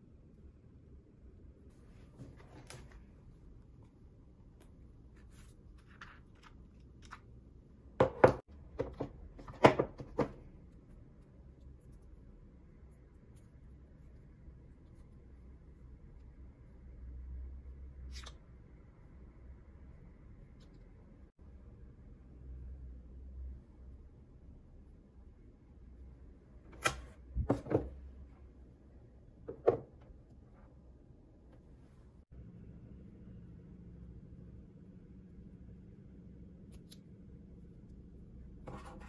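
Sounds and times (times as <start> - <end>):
faint low hum: 0.0 - 39.0.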